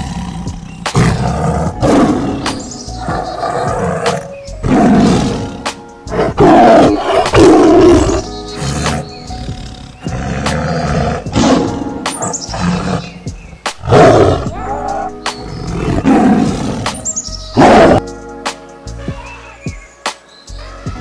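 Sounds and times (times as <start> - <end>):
big cat roaring: 0.0 - 18.0
background music: 0.0 - 21.0.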